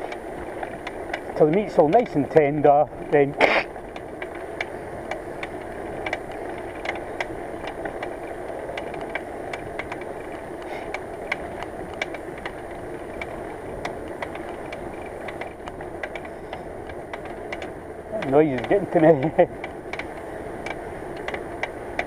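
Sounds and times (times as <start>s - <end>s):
bicycle tyres rushing: 0.0s - 22.0s
sharp clicks and rattles: 0.1s - 22.0s.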